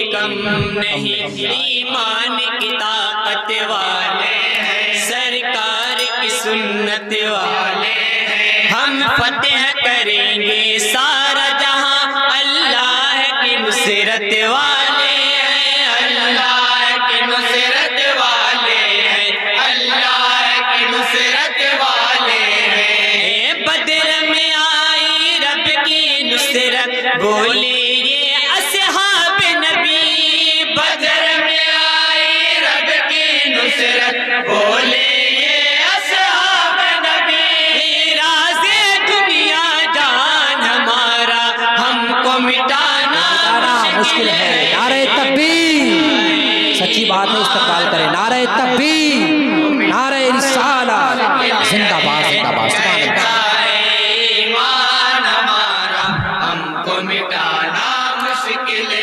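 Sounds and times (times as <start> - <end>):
lead voice at a microphone: 0.0 - 59.0
men chanting in unison: 0.0 - 59.0.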